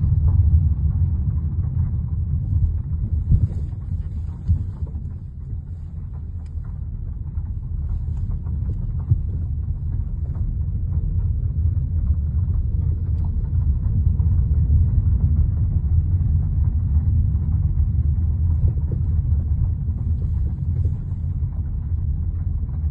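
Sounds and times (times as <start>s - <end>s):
car road rumble: 0.0s - 22.9s.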